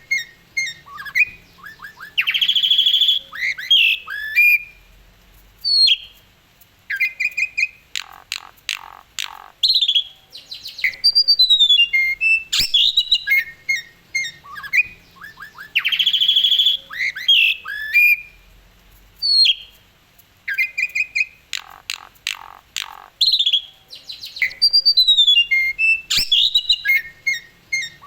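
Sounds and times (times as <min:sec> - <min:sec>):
starling singing: 0:00.0 - 0:04.8, 0:06.9 - 0:18.4, 0:20.5 - 0:28.0.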